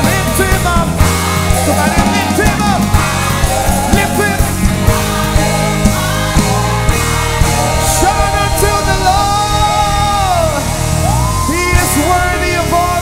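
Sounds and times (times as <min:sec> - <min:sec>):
band playing: 0:00.0 - 0:13.0
drum beats: 0:00.0 - 0:13.0
gospel singers: 0:00.0 - 0:13.0.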